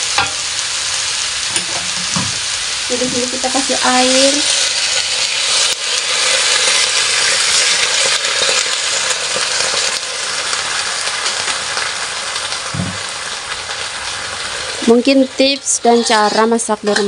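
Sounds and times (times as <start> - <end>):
water sizzling in hot wok: 0.0 - 17.0.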